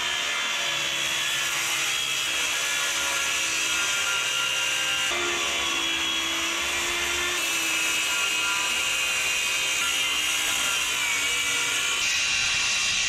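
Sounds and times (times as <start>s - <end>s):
circular saw cutting plywood: 0.0s - 13.0s.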